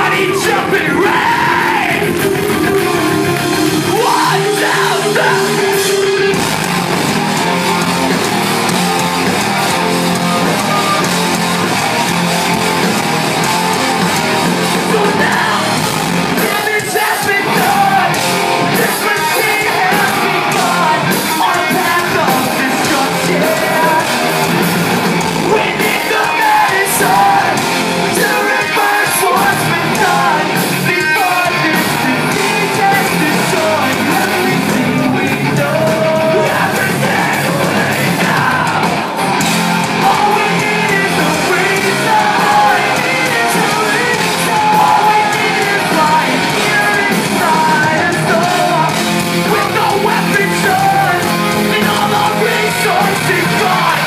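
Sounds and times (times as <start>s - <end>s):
live rock band playing: 0.0s - 54.0s
person singing and yelling: 0.0s - 54.0s.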